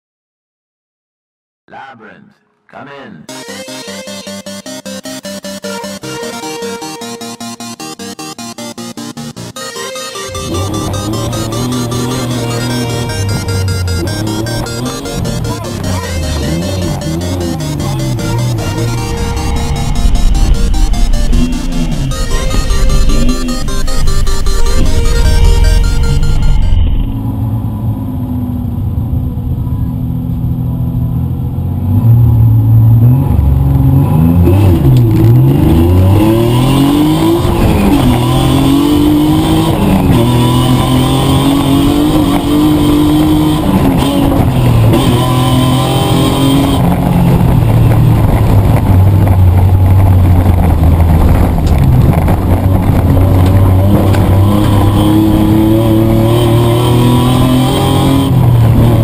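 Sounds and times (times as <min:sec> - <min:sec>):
car engine revving: 0:05.2 - 0:29.4, 0:30.3 - 0:59.0.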